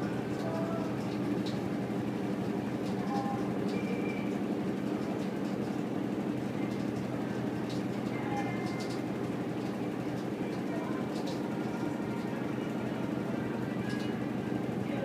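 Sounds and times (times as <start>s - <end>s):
washing machine drum spinning: 0.0s - 15.0s.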